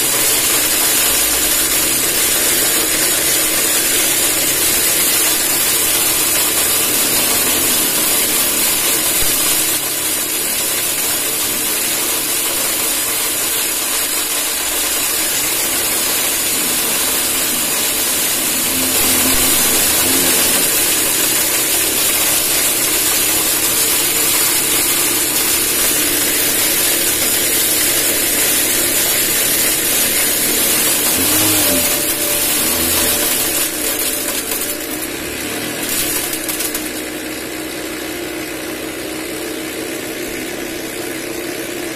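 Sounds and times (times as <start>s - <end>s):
motor grinding corn: 0.0s - 41.9s.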